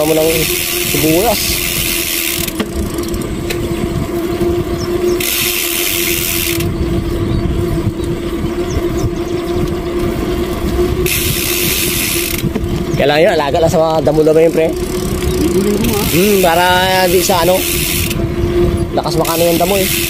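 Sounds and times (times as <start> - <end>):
low road rumble: 0.0 - 20.0
motorcycle engine humming: 0.0 - 20.0.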